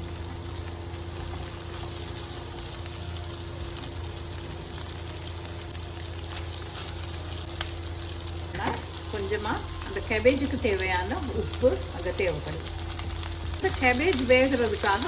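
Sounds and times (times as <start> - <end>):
cabbage sizzling in hot oil: 0.0 - 15.0.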